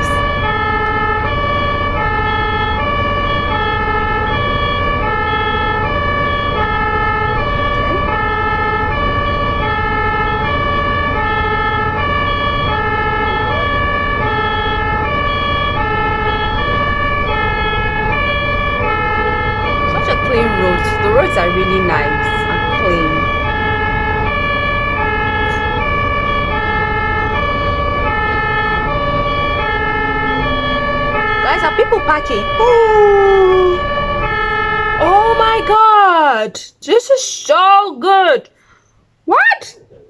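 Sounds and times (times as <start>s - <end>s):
low traffic rumble: 0.0s - 36.4s
two-tone ambulance siren: 0.0s - 36.4s.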